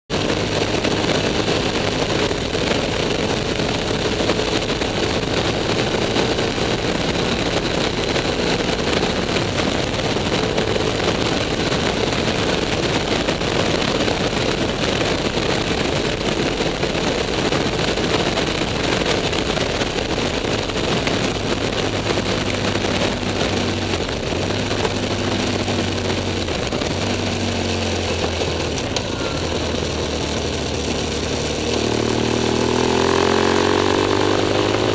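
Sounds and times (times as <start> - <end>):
motorcycle engine running: 0.0 - 34.9
wind rush over microphone: 0.1 - 34.9.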